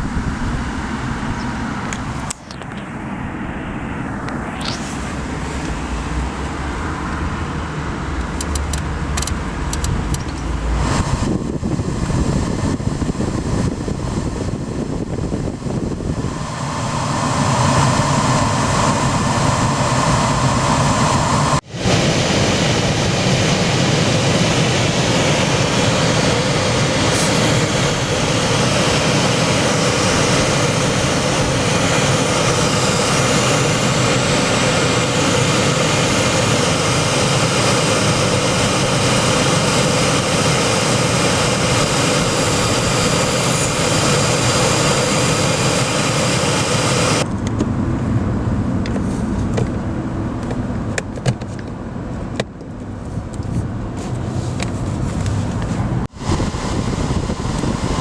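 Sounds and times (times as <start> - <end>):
car air conditioning blower: 0.0 - 3.1, 3.8 - 58.0.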